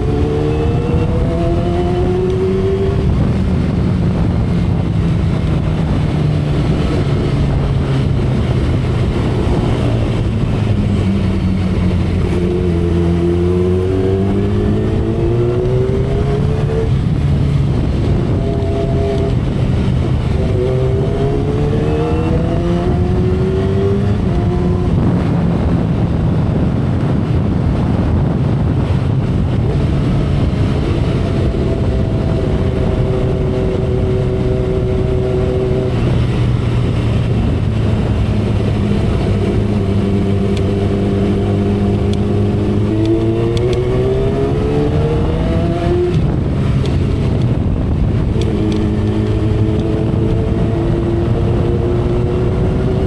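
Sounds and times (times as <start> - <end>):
motorcycle engine and exhaust: 0.0 - 53.0
wind and road noise: 0.0 - 53.0.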